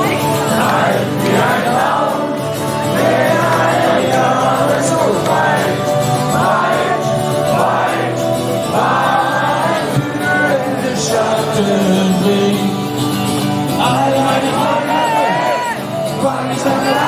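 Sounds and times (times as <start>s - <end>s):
acoustic guitar: 0.0s - 17.0s
crowd singing along: 0.0s - 17.0s
live rock band: 0.0s - 17.0s
man singing: 0.0s - 17.0s.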